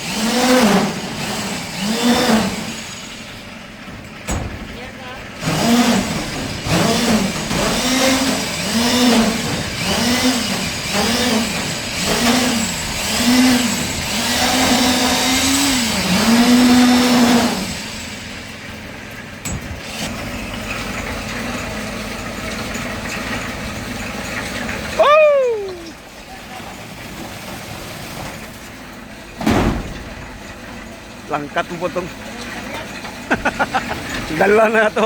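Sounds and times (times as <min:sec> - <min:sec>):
backhoe diesel engine surging: 0:00.0 - 0:35.0.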